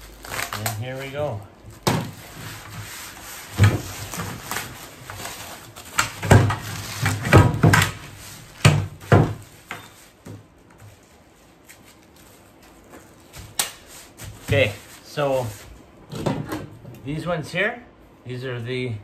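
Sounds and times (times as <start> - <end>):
bubble wrap crinkling: 0.0 - 15.9.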